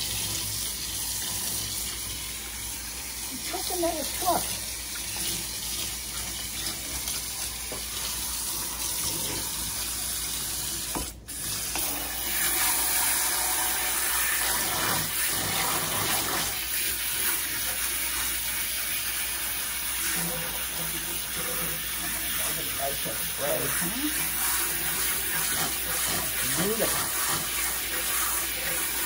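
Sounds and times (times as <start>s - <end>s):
faucet sprayer spraying water: 0.0s - 29.0s.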